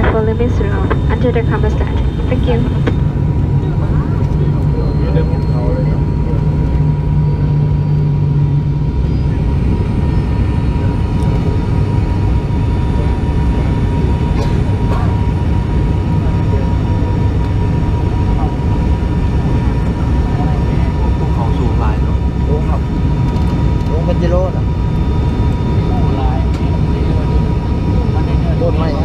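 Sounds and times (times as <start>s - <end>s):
low hum: 0.0s - 29.0s
propeller plane engine drone: 0.0s - 29.0s.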